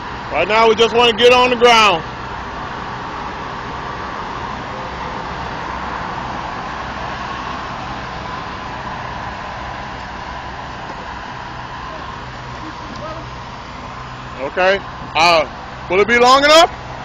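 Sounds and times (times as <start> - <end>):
engine hum: 0.0 - 17.0
faint constant whine: 0.0 - 17.0.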